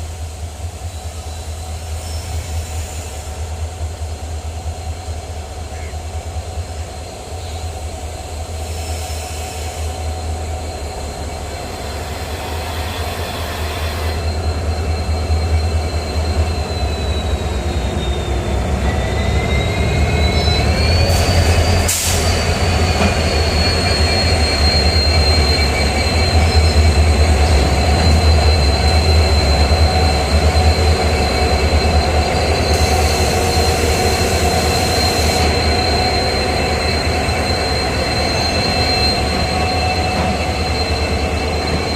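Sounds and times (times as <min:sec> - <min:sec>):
train rumble on rails: 0:00.0 - 0:41.9
train wheel squeal: 0:00.0 - 0:41.9.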